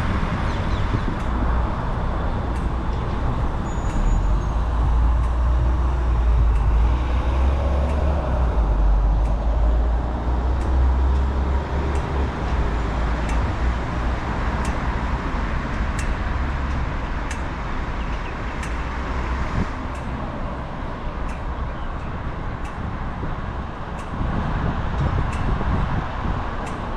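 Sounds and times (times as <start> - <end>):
heavy vehicle rumble: 0.0 - 26.9
road traffic passing: 0.0 - 26.9.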